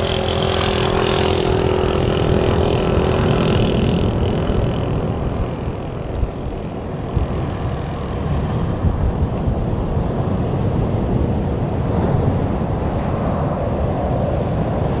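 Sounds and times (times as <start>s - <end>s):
jet engines low rumble: 0.0s - 15.0s
wind buffeting microphone: 0.0s - 15.0s.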